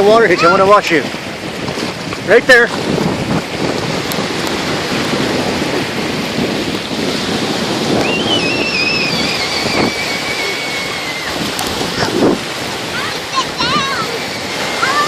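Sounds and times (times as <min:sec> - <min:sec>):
ocean waves breaking: 0:00.0 - 0:15.0
wind on microphone: 0:00.0 - 0:15.0.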